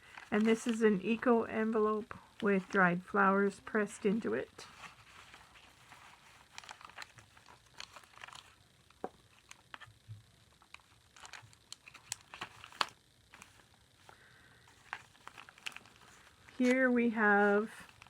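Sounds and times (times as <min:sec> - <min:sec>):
paper rustling and crinkling: 0:00.0 - 0:01.3, 0:04.6 - 0:18.0.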